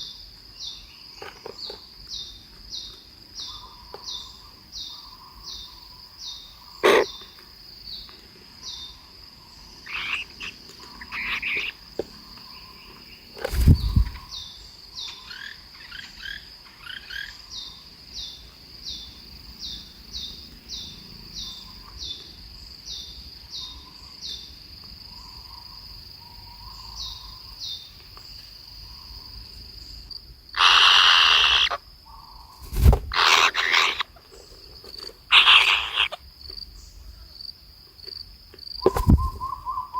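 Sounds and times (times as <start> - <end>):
birds chirping: 0.0 - 37.4, 38.7 - 39.9.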